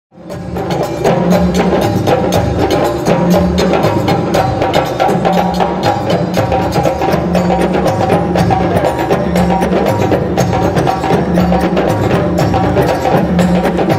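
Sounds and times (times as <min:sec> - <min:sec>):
fast hand-drum strikes: 0:00.2 - 0:13.9.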